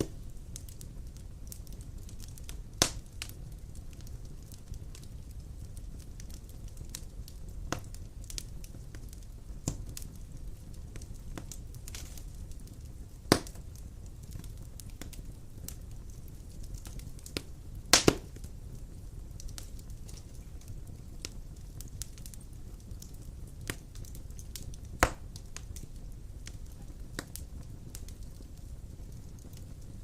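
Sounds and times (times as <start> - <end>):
logs burning with crackles: 0.0 - 30.0
sharp fire pops: 0.0 - 30.0.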